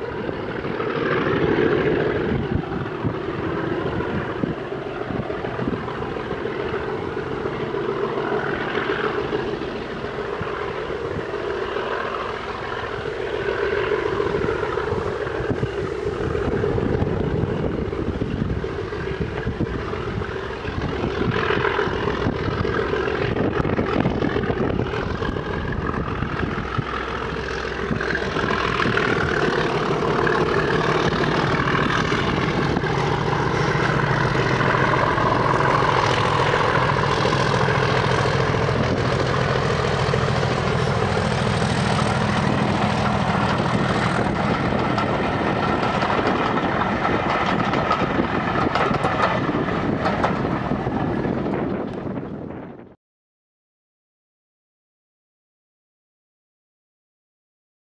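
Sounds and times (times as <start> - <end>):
diesel locomotive engine droning: 0.0 - 53.0.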